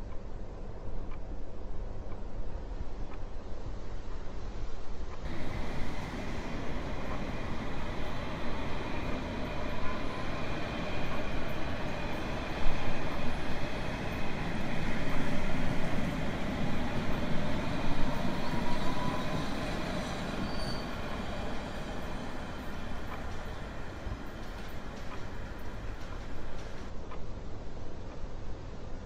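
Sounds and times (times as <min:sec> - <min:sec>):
train rumbling on rails: 0:00.4 - 0:29.0.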